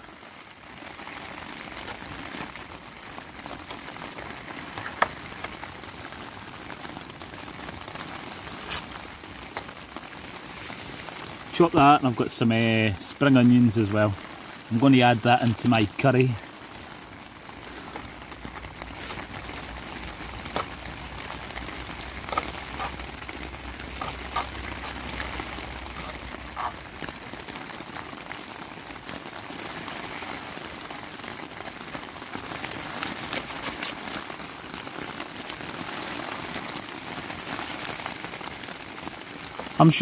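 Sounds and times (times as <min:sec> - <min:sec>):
rain pattering on tent fabric: 0:00.0 - 0:40.0.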